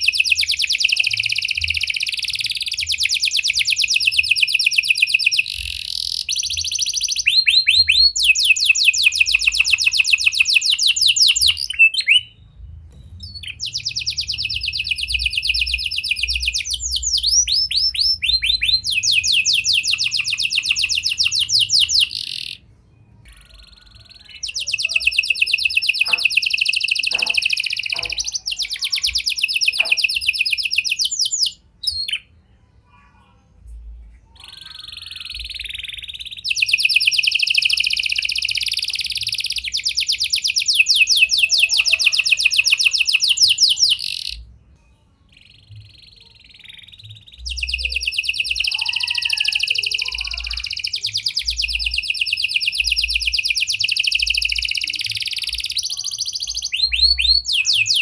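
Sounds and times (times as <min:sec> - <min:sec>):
canary singing rapid trills: 0:00.0 - 0:32.4, 0:34.3 - 0:44.5, 0:45.3 - 0:58.0.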